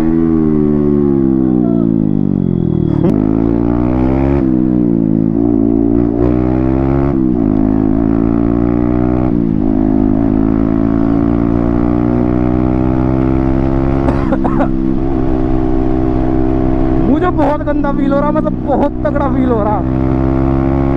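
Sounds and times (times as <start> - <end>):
loud motorcycle engine revving: 0.0 - 20.9.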